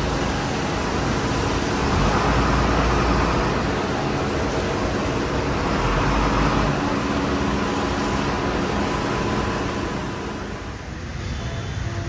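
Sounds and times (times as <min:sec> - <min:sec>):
diesel bus engine idling: 0:00.0 - 0:12.0.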